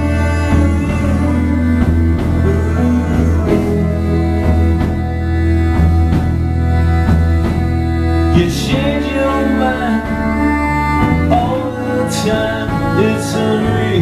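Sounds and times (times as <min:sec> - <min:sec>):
bass line: 0:00.0 - 0:14.0
electric guitars: 0:00.0 - 0:14.0
violin melody: 0:00.0 - 0:14.0.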